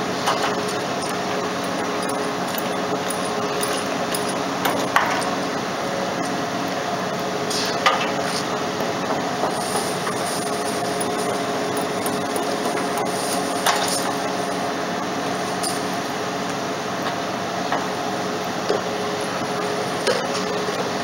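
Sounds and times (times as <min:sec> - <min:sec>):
ship engines humming: 0:00.0 - 0:07.5, 0:08.1 - 0:21.0.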